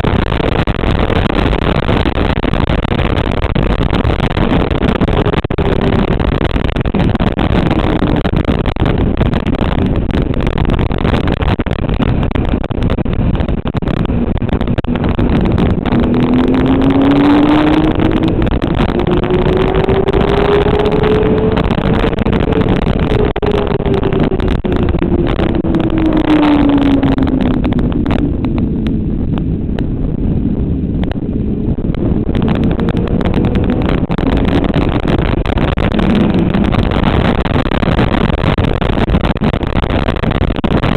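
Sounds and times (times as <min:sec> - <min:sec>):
motorcycle engine running hard: 0:00.0 - 0:40.2.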